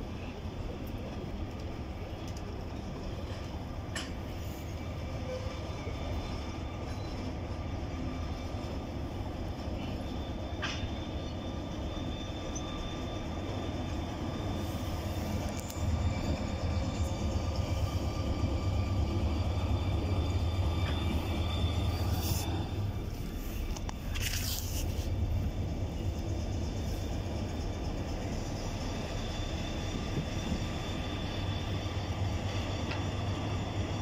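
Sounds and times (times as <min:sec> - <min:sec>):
locomotive rumble: 0:00.0 - 0:34.0
train rumbling past: 0:00.0 - 0:34.0.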